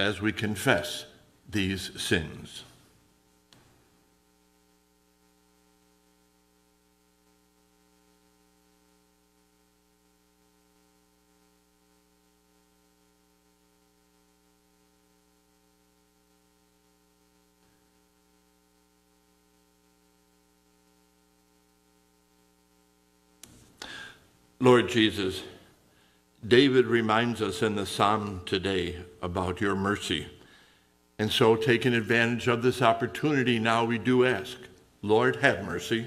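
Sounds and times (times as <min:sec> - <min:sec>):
faint electrical mains hum: 0:00.0 - 0:36.0.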